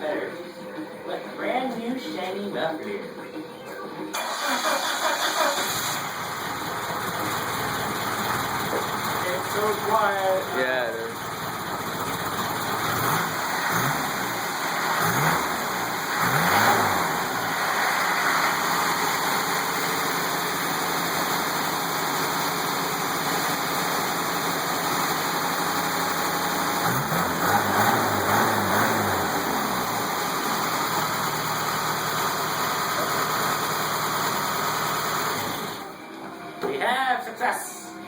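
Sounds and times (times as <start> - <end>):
engine idling and revving: 4.1 - 35.9.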